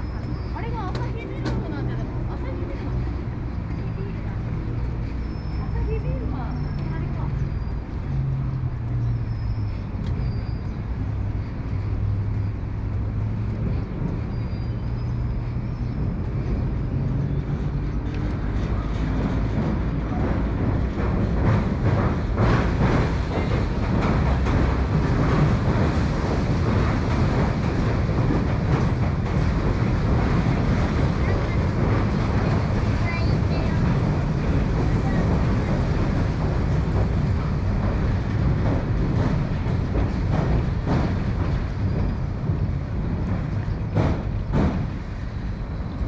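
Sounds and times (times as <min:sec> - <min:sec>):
train rumbling on a bridge: 0:00.0 - 0:46.0
train wheel clatter: 0:00.0 - 0:46.0.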